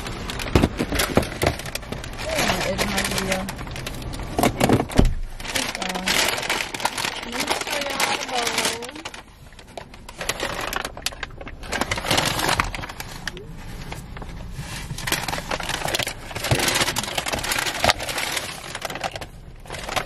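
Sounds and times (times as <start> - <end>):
paper bag rustling: 0.0 - 20.0
plastic lid crinkling: 0.0 - 20.0.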